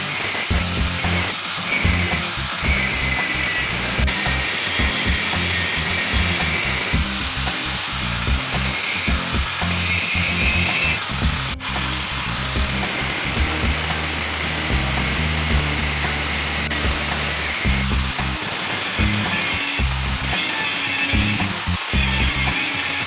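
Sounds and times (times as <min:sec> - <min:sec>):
background music with bass line: 0:00.0 - 0:20.4, 0:21.1 - 0:22.7
power tool running: 0:00.0 - 0:23.0.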